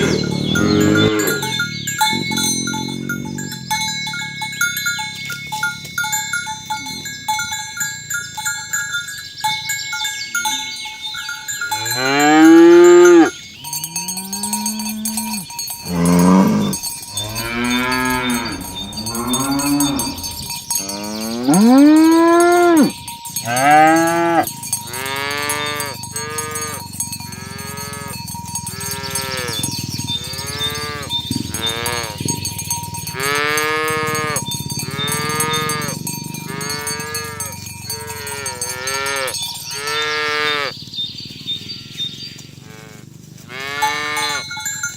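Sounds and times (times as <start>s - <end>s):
cattle mooing: 0.0s - 7.0s, 11.7s - 40.8s, 42.6s - 44.5s
steady high ringing: 0.0s - 40.3s.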